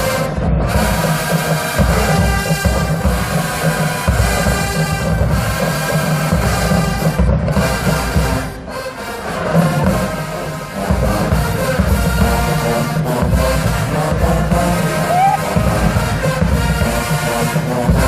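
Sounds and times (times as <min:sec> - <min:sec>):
bass drum and percussion: 0:00.0 - 0:08.7, 0:09.4 - 0:18.0
brass chords: 0:00.0 - 0:18.0
marching band playing: 0:00.0 - 0:18.0.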